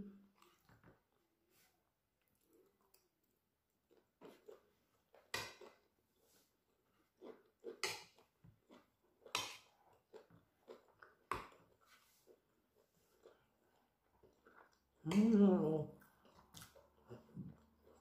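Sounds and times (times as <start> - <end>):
chewing: 0.3 - 1.2, 2.2 - 18.0.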